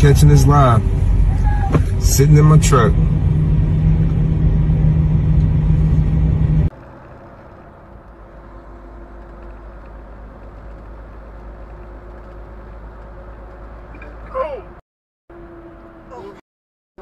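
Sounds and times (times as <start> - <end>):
truck road and engine rumble: 0.0 - 16.4.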